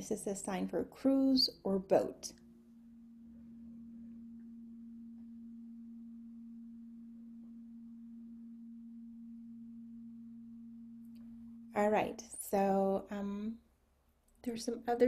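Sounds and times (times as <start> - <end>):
fainter lower tone: 0.0 - 13.6
steady low hum: 0.0 - 15.0.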